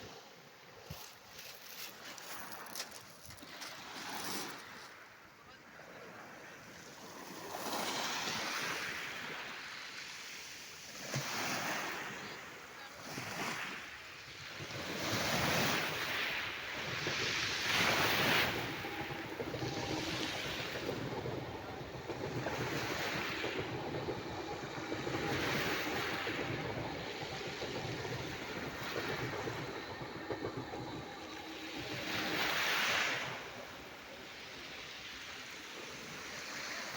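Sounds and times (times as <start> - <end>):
sea waves washing onto shore: 6.7 - 36.9.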